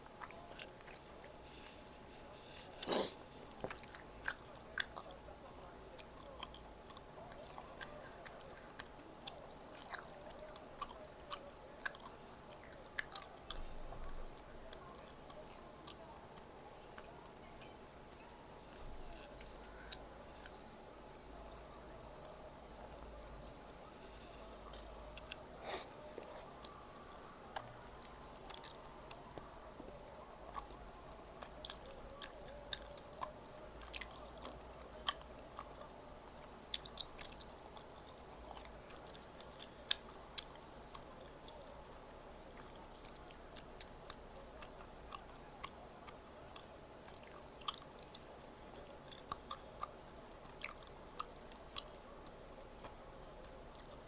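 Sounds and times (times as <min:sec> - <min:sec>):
crunchy chewing: 0:00.0 - 0:29.5, 0:30.3 - 0:54.0.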